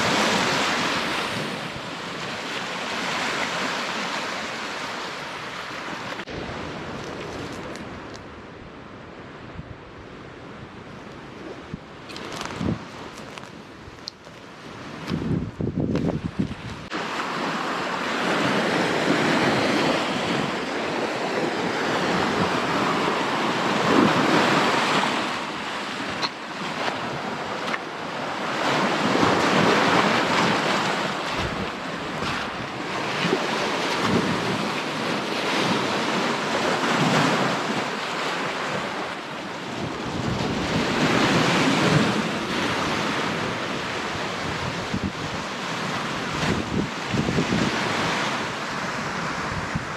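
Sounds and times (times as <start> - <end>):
waves breaking on shore: 0.0 - 49.9
wind on microphone: 5.9 - 49.9.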